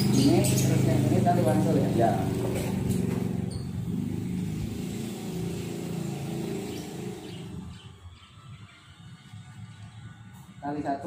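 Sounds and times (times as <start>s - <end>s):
passing vehicle engine humming: 0.0s - 10.7s.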